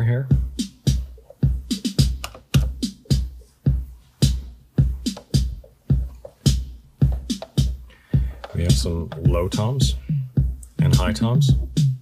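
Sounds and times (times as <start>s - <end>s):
drum machine kick drum: 0.0s - 12.0s
drum machine snare hits: 0.0s - 12.0s.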